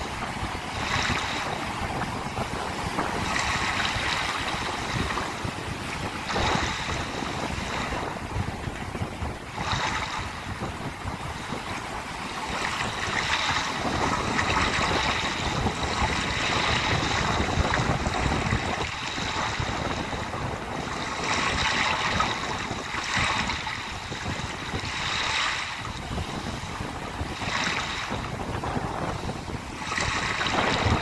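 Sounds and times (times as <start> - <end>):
sea waves washing ashore: 0.0 - 31.0
wind on microphone: 0.0 - 31.0.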